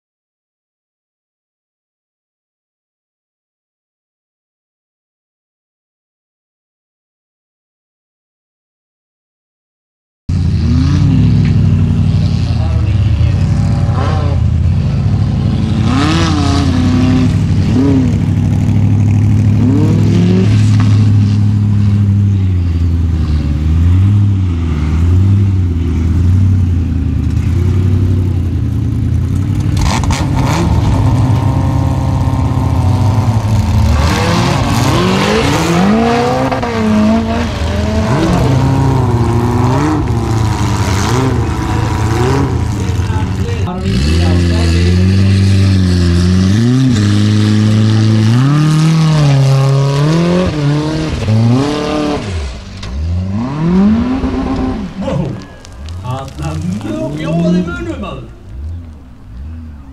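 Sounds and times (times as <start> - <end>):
buggy engine revving hard: 10.3 - 58.8.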